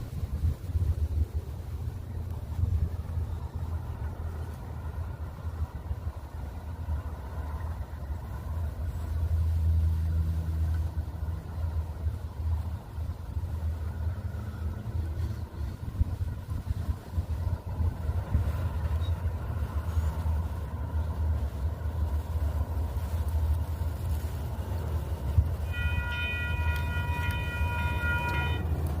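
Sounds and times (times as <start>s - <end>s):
wind buffeting microphone: 0.0s - 10.2s, 10.9s - 29.0s
vehicle engine rumble: 0.0s - 29.0s.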